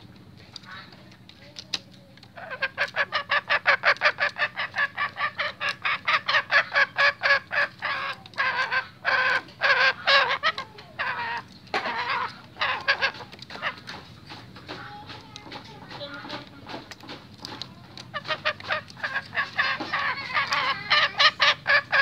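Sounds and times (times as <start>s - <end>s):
junglefowl cackling calls: 2.3s - 15.1s, 16.1s - 22.0s.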